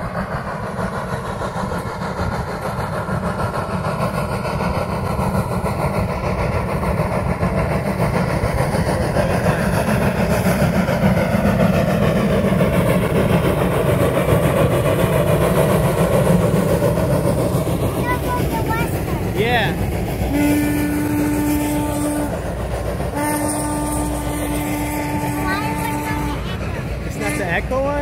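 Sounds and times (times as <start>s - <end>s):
steam train rumbling past: 0.0s - 28.0s.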